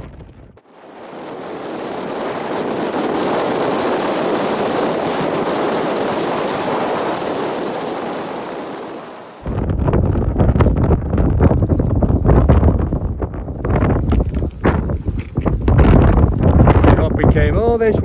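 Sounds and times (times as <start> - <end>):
wind rushing: 0.0 - 18.0.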